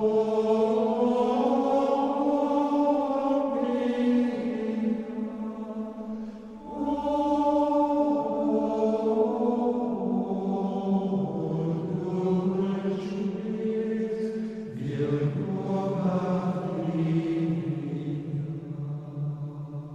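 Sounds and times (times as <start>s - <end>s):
chanting voices holding notes: 0.0s - 19.9s.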